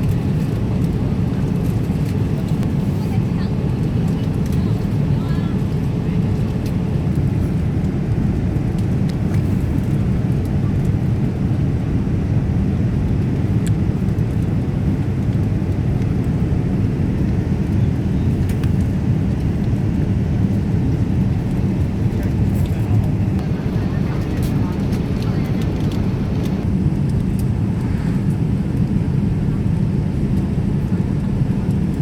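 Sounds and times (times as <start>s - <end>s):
jet engines and rushing air: 0.0s - 32.0s.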